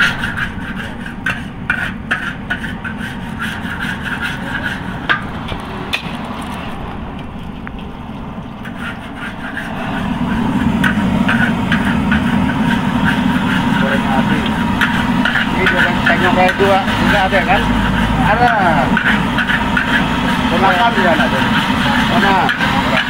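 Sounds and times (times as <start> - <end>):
metal spatula scraping a wok: 0.0 - 6.9, 8.6 - 23.0
low rumble: 0.0 - 20.5.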